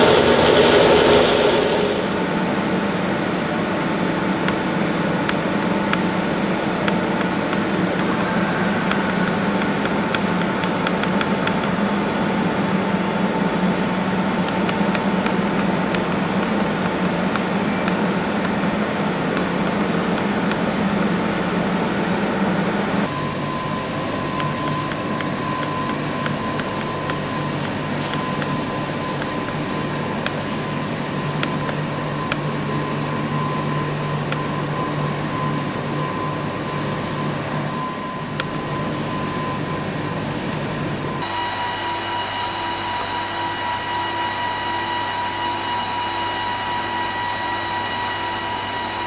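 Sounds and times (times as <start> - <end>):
high steady whine: 0.0 - 49.0
machinery humming: 0.0 - 49.0.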